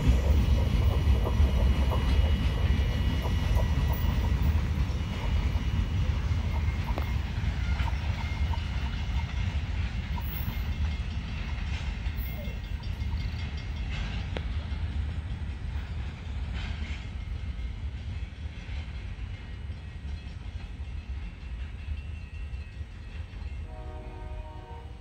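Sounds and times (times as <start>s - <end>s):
train rumbling down track: 0.0s - 25.0s.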